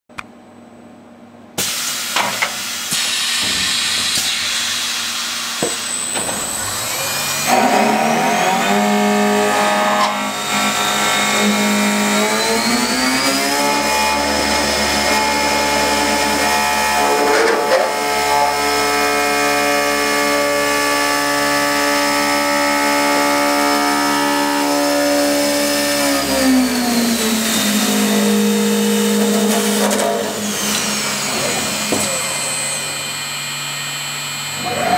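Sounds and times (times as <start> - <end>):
lathe cutters cutting wood: 5.0 - 34.9
motor whine: 5.4 - 34.9.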